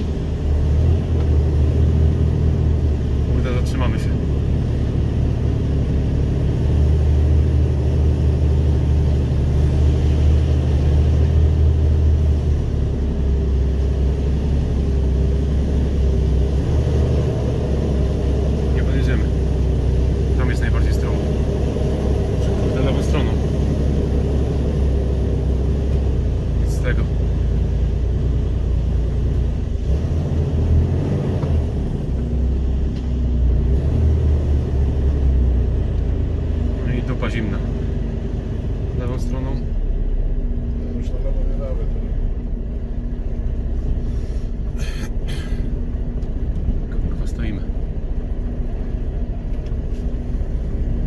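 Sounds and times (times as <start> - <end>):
diesel truck engine droning: 0.0 - 51.0.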